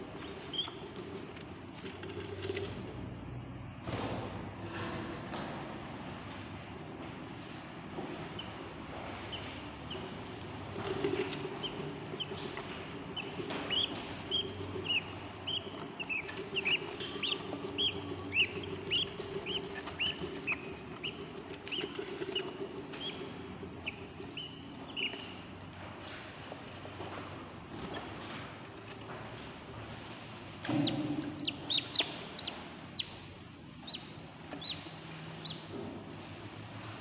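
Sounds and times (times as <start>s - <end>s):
budgie chicks chirping: 0.0s - 2.9s, 6.8s - 37.0s
low steady hum: 0.0s - 37.0s.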